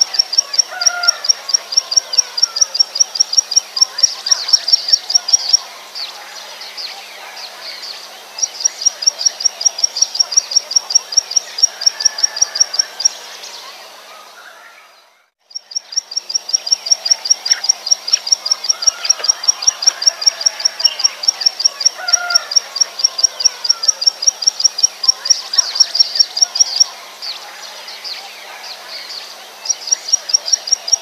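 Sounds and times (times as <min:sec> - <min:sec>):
faint background birds and insects: 0:00.0 - 0:31.0.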